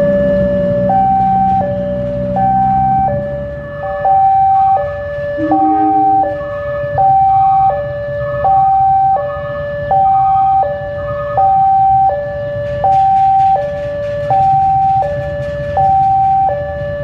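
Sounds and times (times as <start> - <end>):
diesel locomotive rumble: 0.0 - 17.0
two-tone warning alarm: 0.0 - 17.0.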